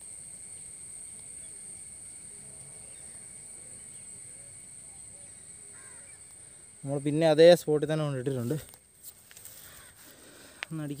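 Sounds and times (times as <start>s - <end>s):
faint chirps: 0.0s - 11.0s
high-pitched insect trill: 0.0s - 11.0s.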